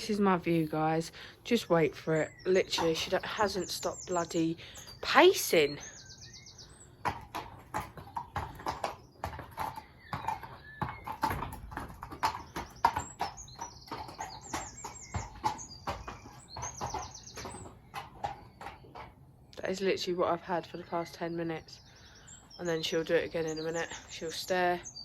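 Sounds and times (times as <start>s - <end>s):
birds chirping: 0.0s - 25.0s
horse hooves pacing: 0.0s - 25.0s.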